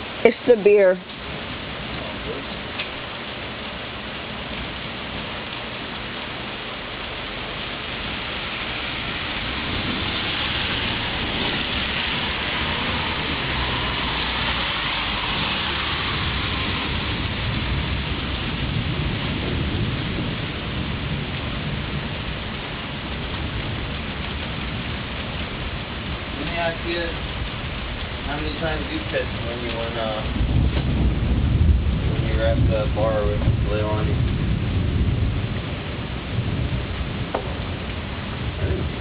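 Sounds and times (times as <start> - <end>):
low thunder rumble: 0.0 - 39.0
steady rain: 0.0 - 39.0.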